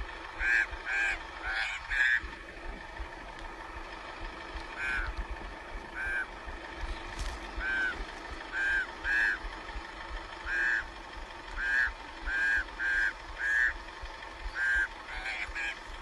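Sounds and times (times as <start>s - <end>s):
birds alarm calls: 0.0s - 16.0s.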